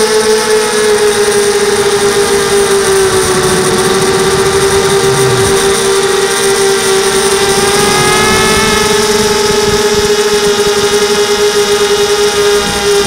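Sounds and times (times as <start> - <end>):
model airplane motor whine: 0.0 - 13.0.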